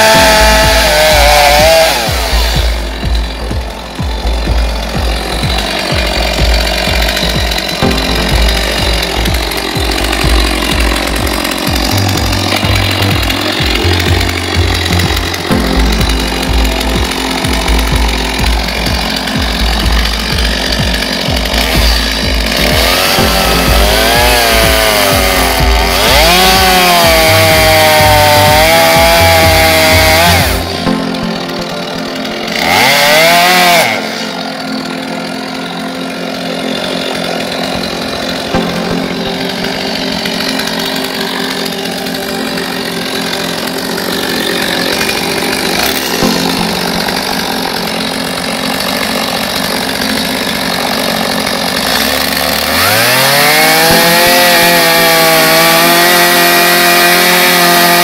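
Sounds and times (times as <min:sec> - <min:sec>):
background music with bass: 0:00.0 - 0:58.0
chainsaw cutting wood: 0:00.0 - 0:58.0.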